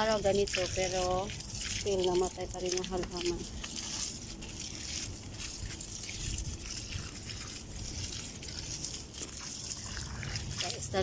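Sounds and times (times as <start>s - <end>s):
water running into basin: 0.0s - 11.0s.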